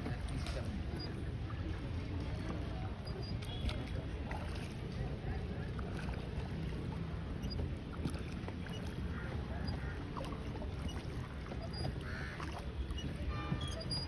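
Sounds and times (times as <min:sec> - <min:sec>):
rumble of water and wind: 0:00.0 - 0:14.0.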